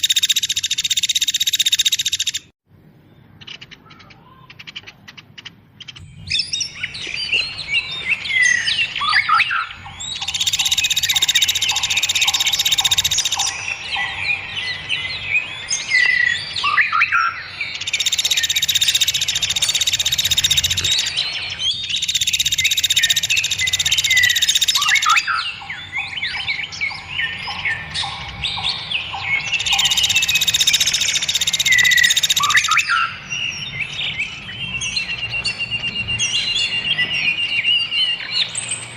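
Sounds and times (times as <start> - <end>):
loud buzzy bird trill: 0.0 - 2.5, 3.2 - 38.9
songbirds singing: 0.0 - 38.9.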